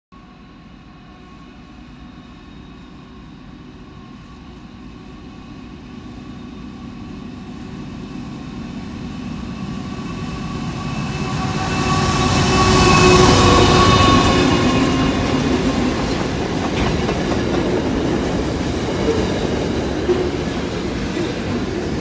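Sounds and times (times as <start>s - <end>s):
steady train whine: 0.1s - 22.0s
locomotive engines droning: 0.2s - 22.0s.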